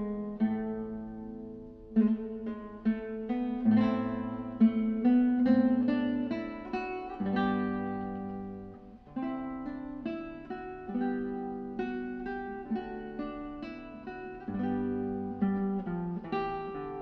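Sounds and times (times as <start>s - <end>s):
guitar picking a melody: 0.0s - 17.0s.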